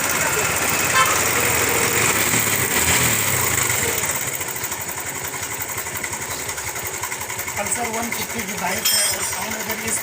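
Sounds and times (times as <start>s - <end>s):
motorcycle engine metallic rattle: 0.0s - 10.0s.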